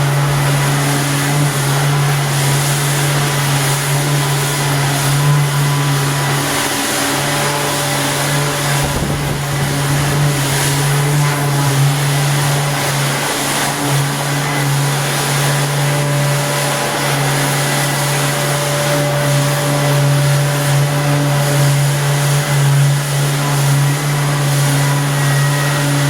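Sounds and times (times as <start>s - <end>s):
electric motor humming: 0.0s - 26.0s.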